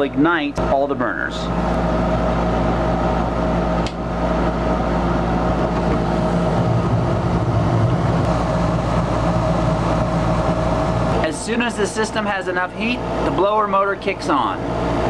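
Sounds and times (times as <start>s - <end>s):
exhaust fan humming: 0.0s - 15.0s
burners low rumble: 0.6s - 15.0s.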